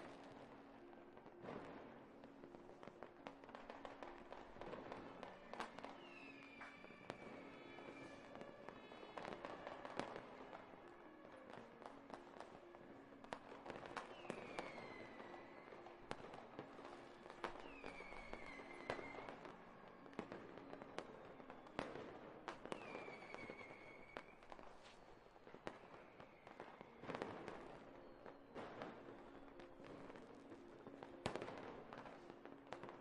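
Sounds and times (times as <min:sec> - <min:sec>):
faint fireworks crackling bangs: 0:00.0 - 0:33.0
whistling rockets: 0:03.6 - 0:10.8, 0:13.3 - 0:33.0.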